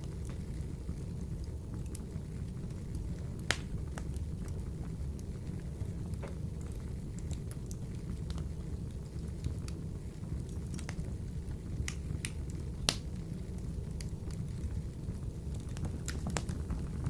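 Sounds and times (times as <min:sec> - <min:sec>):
flames rumbling in wood stove: 0:00.0 - 0:17.0
wood fire crackling and popping: 0:00.0 - 0:17.0.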